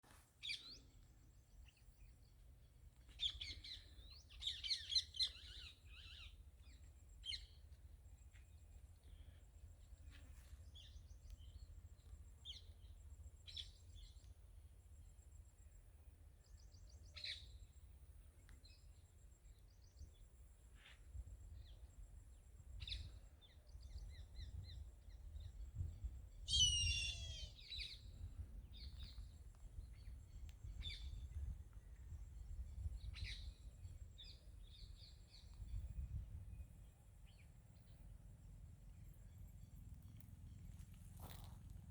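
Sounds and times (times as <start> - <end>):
wild birds chirping: 0.4 - 14.4, 18.4 - 41.9.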